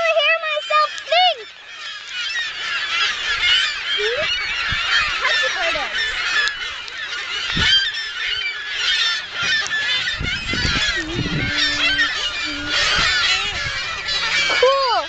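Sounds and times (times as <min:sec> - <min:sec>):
gull colony calling: 0:00.0 - 0:15.0.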